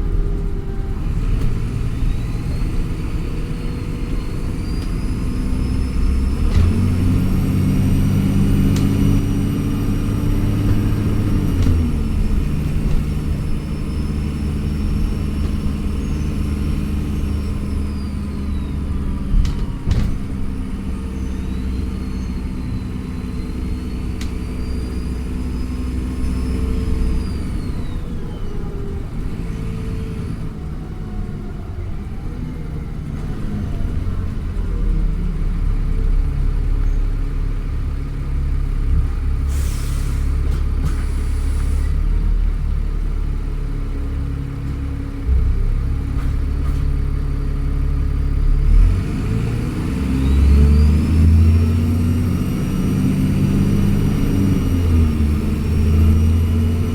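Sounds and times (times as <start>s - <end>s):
bus engine accelerating: 0.0s - 56.9s.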